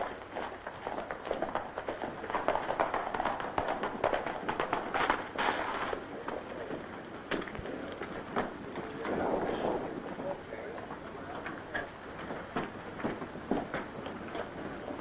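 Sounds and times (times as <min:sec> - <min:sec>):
horses galloping hoofbeats: 0:00.0 - 0:15.0.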